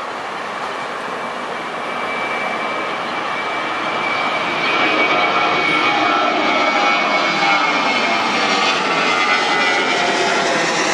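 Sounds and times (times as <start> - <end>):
jet engines roaring overhead: 0.0 - 10.9.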